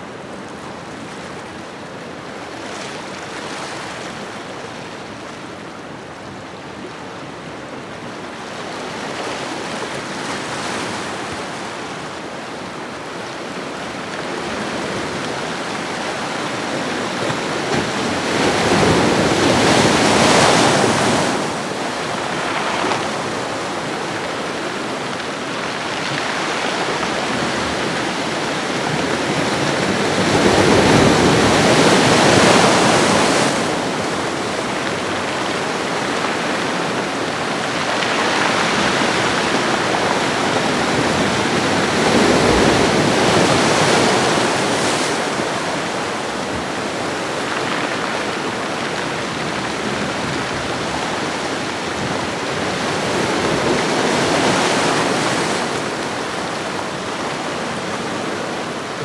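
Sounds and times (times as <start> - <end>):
ocean waves on shoreline: 9.4 - 59.0.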